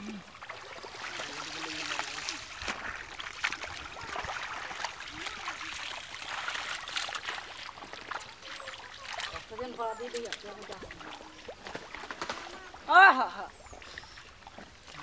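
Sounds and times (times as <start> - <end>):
mud squelching and sloshing: 0.0 - 12.9
wet splats and splashes: 0.5 - 12.6.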